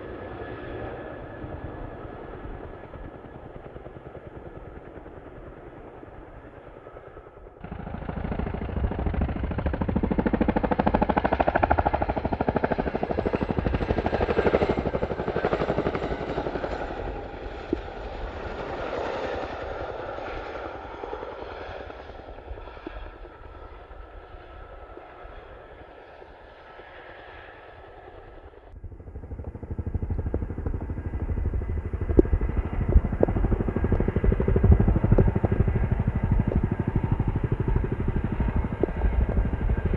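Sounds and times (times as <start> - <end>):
helicopter rotors chopping: 0.0 - 39.9.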